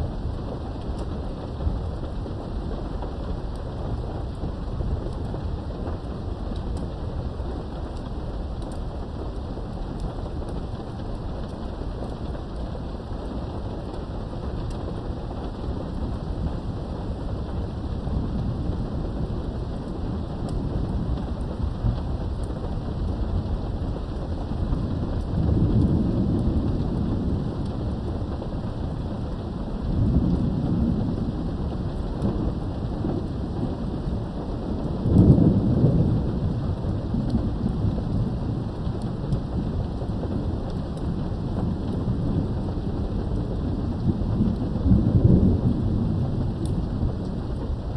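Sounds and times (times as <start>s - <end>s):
rain behind a window: 0.0s - 47.9s
thunder rumbles: 0.0s - 47.9s.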